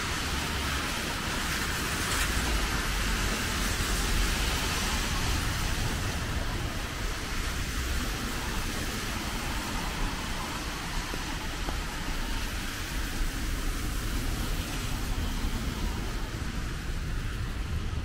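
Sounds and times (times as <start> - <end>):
traffic hiss on wet road: 0.0 - 18.0.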